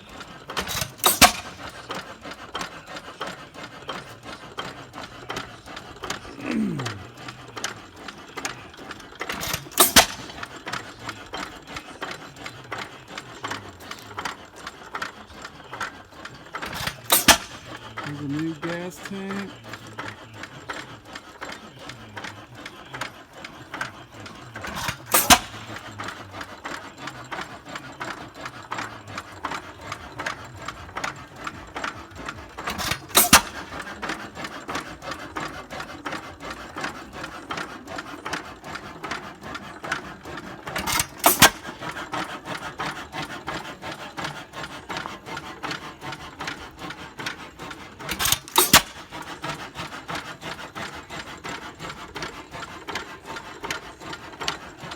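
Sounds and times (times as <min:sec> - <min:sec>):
engine clacking: 0:00.0 - 0:54.9.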